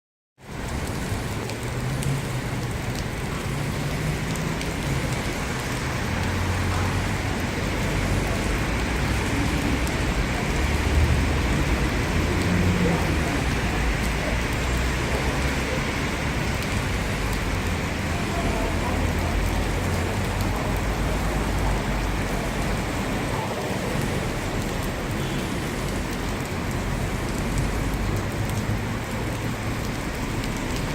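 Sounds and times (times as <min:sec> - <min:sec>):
heavy rain pouring: 0:00.4 - 0:30.9.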